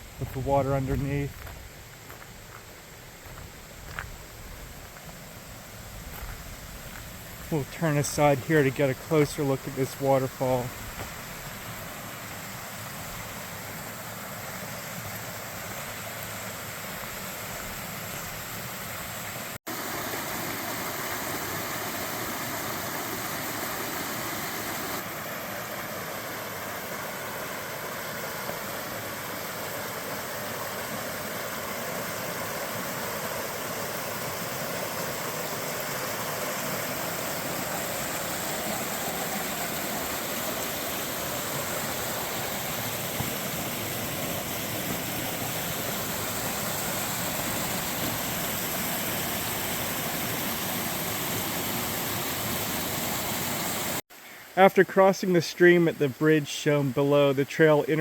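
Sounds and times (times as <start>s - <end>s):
waterfall rushing: 7.5s - 54.0s.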